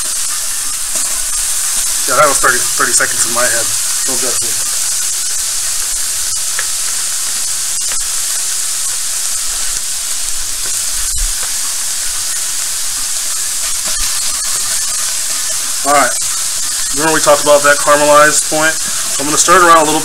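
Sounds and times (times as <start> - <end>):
onions sizzling in a pan: 0.0 - 20.0.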